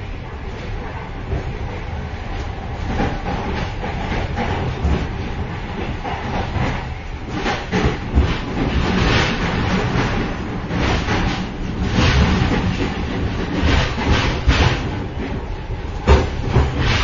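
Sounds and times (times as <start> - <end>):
train rolling rumble: 0.0 - 17.0
knocks and clanks: 2.9 - 17.0.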